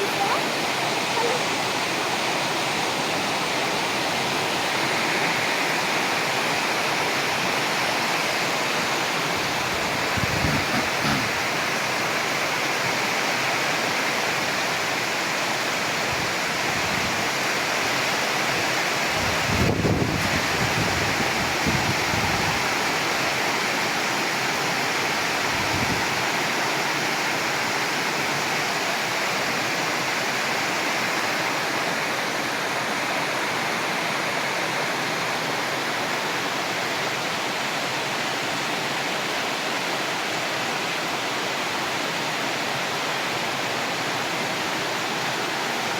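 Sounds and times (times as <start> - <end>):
heavy rain falling: 0.0 - 37.4.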